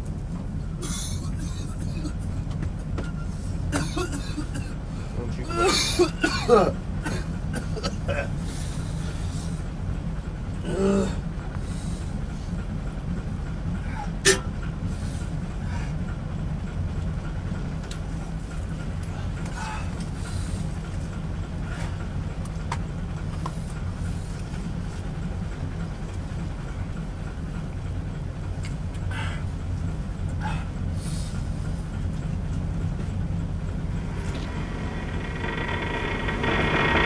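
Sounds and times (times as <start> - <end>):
boat engine drone: 0.0 - 37.0.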